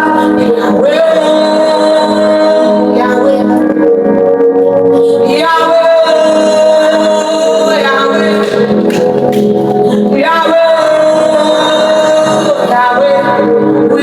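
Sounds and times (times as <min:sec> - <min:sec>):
worship music with singing: 0:00.0 - 0:14.0.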